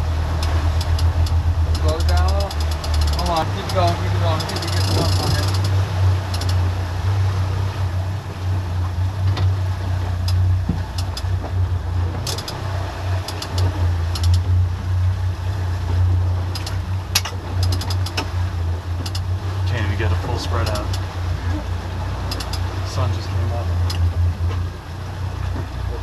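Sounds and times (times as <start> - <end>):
boat engines humming: 0.0 - 26.0
water rushing past hull: 0.0 - 26.0.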